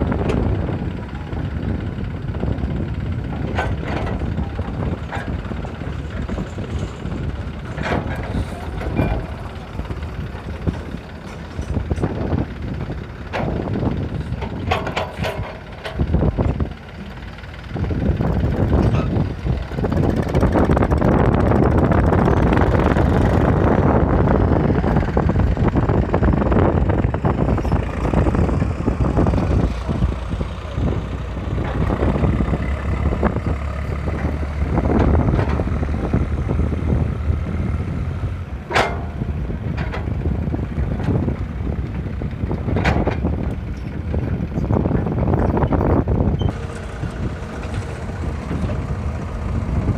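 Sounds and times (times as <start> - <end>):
tractor diesel engine labouring: 0.0 - 49.9.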